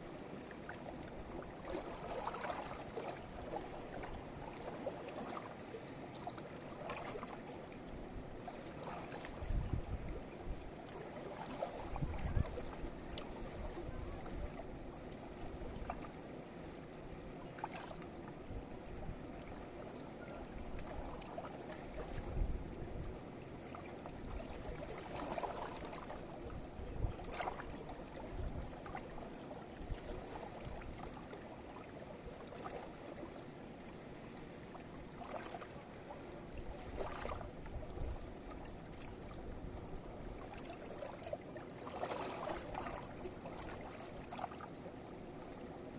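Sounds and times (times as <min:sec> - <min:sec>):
river water flowing: 0:00.0 - 0:45.9.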